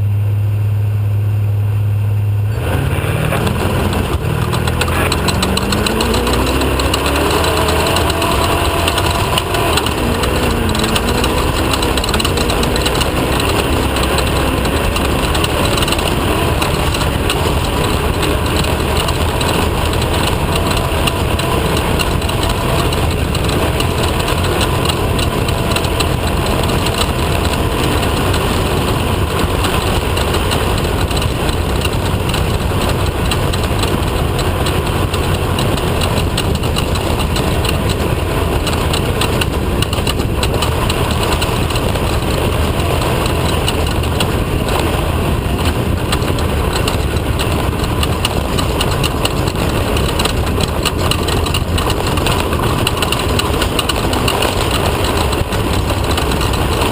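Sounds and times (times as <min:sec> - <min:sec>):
race vehicle engine running: 0:00.0 - 0:56.9
vehicle rattling over rough ground: 0:00.0 - 0:56.9.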